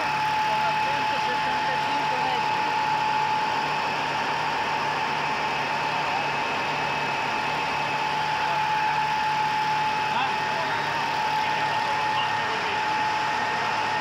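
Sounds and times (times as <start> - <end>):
printing press running: 0.0 - 14.0.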